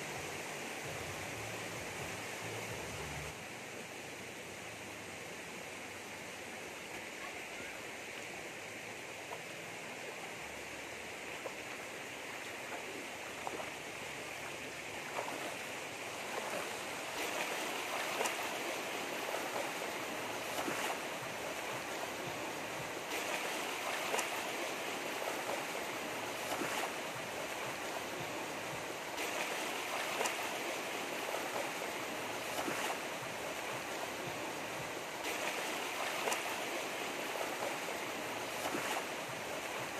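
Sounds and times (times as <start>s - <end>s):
stream rushing over rapids: 0.0s - 39.9s.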